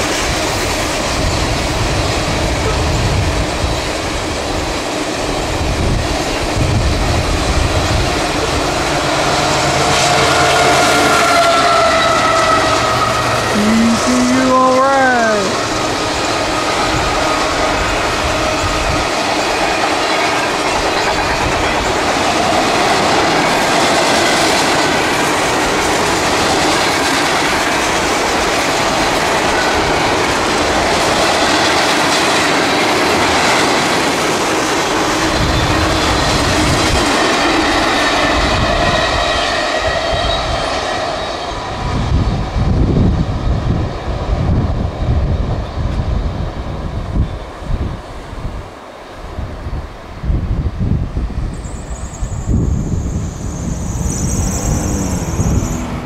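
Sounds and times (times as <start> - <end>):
train wheels rumbling on rail: 0.0 - 13.5, 15.6 - 56.0
wind gusts on microphone: 0.0 - 13.6, 15.5 - 56.0.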